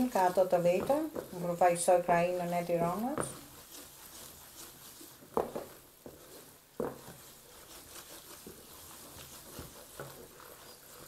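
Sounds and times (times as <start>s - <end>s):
spoon scraping paste in pan: 0.0s - 11.0s.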